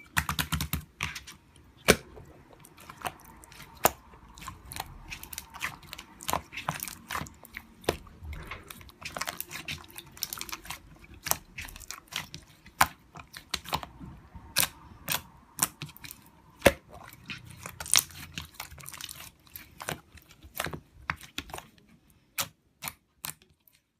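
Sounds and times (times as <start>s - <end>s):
sharp clicks and crunches: 0.0s - 21.8s.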